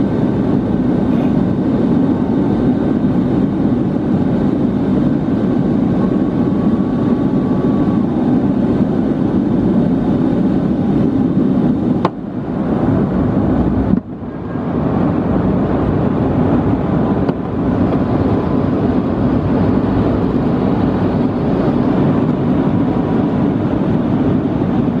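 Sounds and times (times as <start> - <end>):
airliner cabin roar: 0.0 - 25.0.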